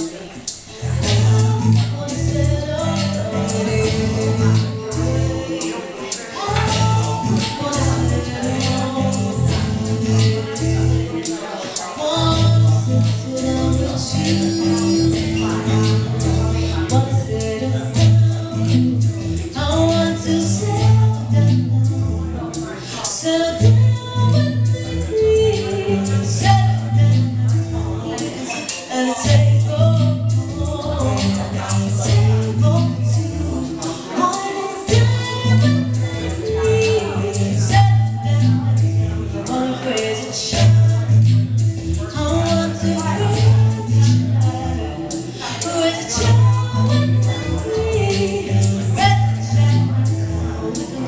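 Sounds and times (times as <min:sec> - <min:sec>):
bass notes: 0:00.0 - 0:28.6, 0:29.2 - 0:51.0
person singing: 0:00.0 - 0:51.0.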